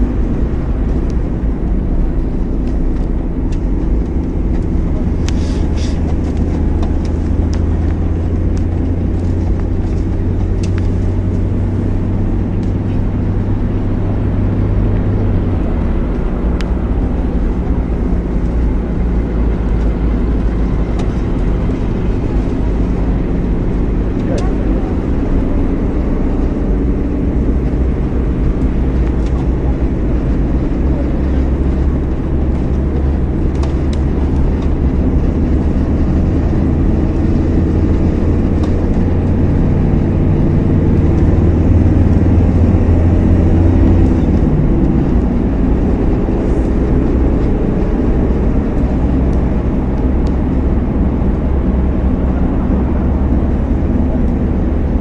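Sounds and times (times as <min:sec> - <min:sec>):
car engine droning: 0:00.0 - 0:55.0
road noise: 0:00.0 - 0:55.0.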